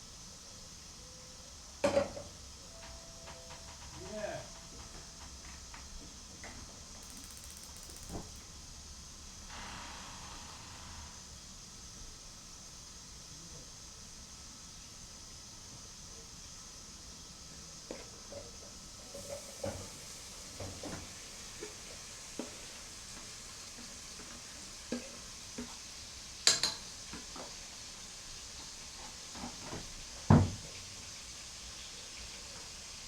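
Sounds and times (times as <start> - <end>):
faint sizzle: 0.0 - 33.0.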